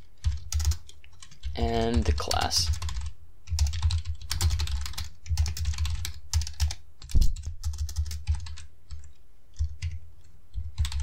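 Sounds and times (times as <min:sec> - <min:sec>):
typing on computer keyboard: 0:00.1 - 0:11.0.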